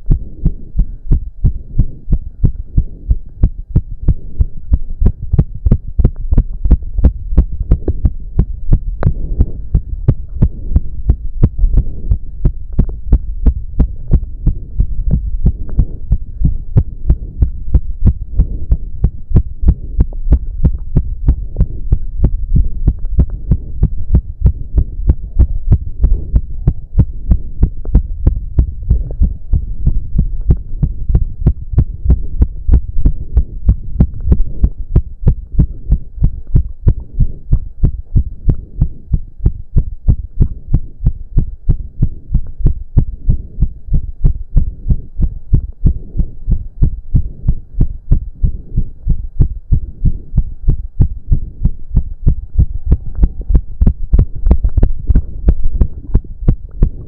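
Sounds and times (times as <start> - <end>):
heart pounding fast: 0.0 - 57.0
low hum: 0.0 - 57.0.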